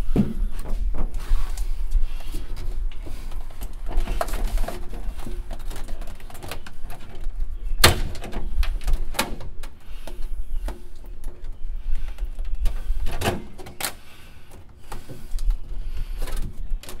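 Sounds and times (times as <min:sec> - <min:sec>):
clicks and knocks of handling wiring: 0:00.1 - 0:17.0.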